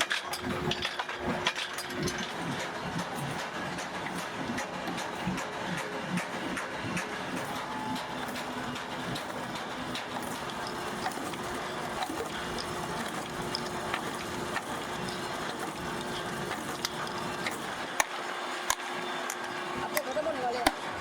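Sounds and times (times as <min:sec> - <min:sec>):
workshop machine hum: 0:00.0 - 0:21.0.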